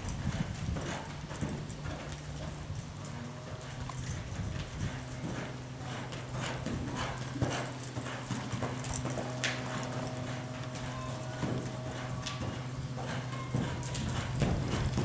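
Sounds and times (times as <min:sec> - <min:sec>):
horse hoofbeats on dirt: 0:00.0 - 0:15.0
low hum: 0:00.0 - 0:15.0.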